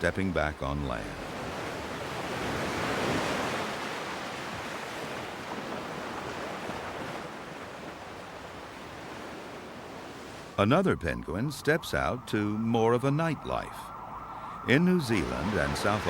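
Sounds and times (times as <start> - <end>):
sea waves washing: 0.0 - 16.0.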